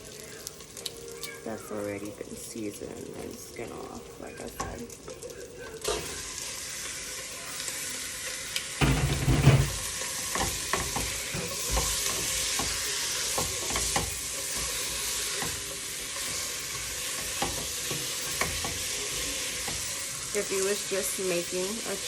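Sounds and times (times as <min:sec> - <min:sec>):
chicken sizzling in fat: 0:00.0 - 0:22.0.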